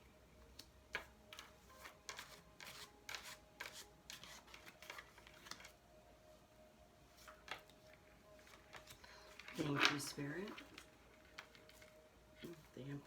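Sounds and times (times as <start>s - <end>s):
cards flicking and rustling: 0.6s - 5.8s, 7.2s - 12.6s.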